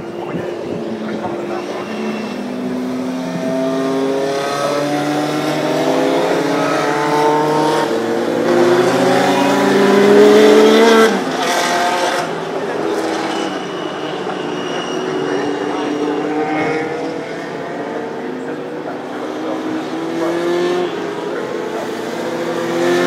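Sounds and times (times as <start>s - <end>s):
racing car engines accelerating: 0.0s - 23.0s.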